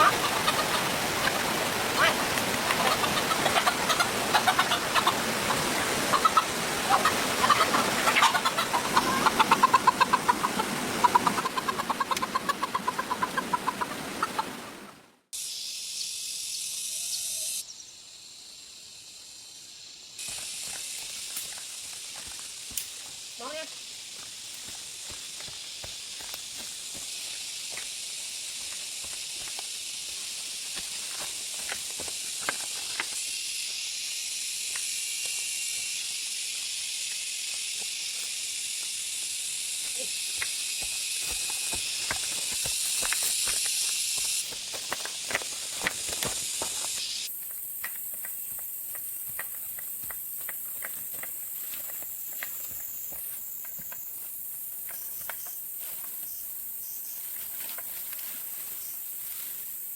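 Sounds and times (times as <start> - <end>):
forest insects chorus: 0.0 - 14.4, 15.3 - 59.9.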